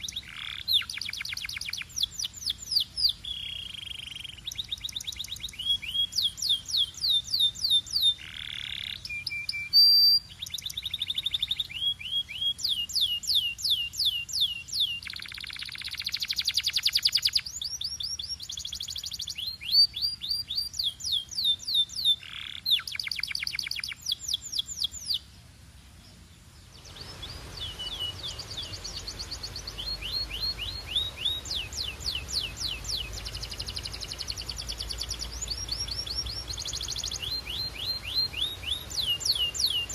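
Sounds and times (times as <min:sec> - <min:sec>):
canary singing trills: 0:00.0 - 0:25.3, 0:26.7 - 0:39.9
background hiss: 0:00.0 - 0:39.9.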